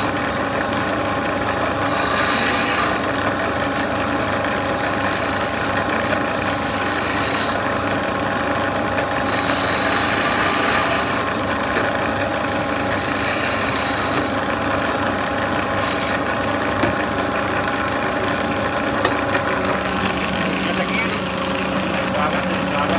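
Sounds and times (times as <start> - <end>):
cnc machine cutting wood: 0.0 - 22.9.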